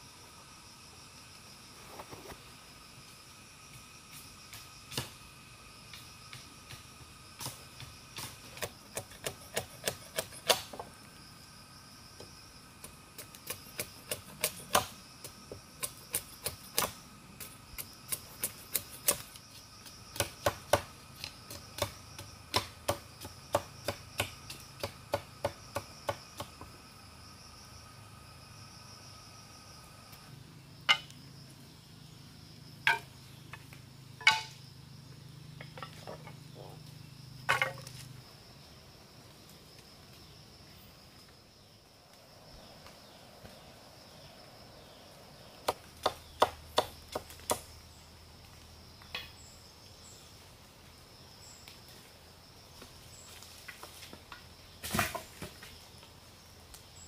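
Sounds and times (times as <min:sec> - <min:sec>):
insect buzzing: 0:00.0 - 0:57.0.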